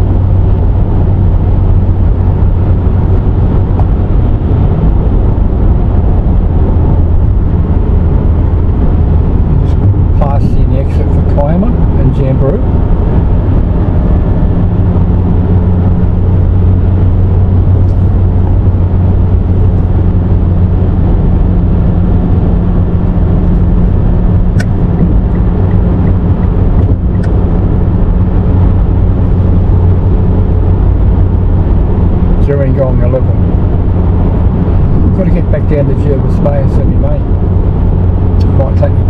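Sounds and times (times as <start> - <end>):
car engine drone: 0.0 - 39.0
tyre and road noise: 0.0 - 39.0.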